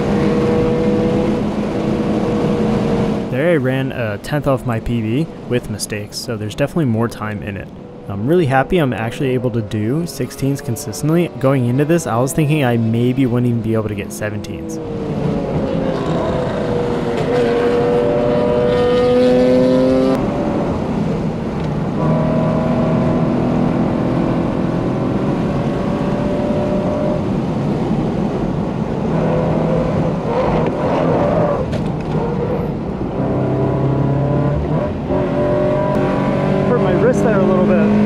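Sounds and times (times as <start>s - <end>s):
car engine revving: 0.0s - 5.8s, 6.6s - 38.0s.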